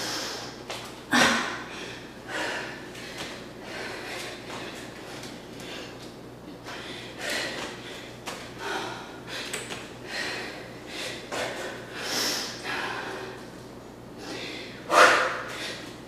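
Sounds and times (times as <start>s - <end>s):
woman breathing hard: 0.0s - 13.5s, 14.1s - 16.0s.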